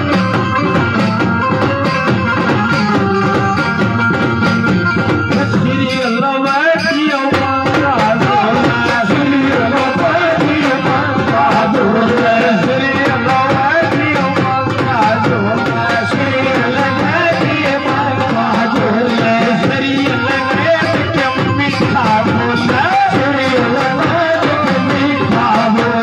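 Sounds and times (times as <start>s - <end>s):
man singing: 0.0s - 1.2s, 5.2s - 26.0s
drum beat: 0.0s - 6.2s, 7.3s - 26.0s
held instrument tones: 0.0s - 26.0s.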